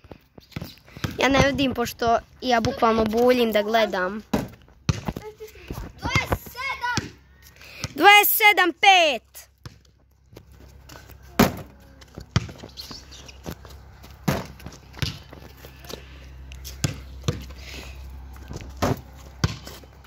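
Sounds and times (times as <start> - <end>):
basketball bouncing on pavement: 0.0 - 7.2, 7.8 - 8.2, 9.5 - 20.0.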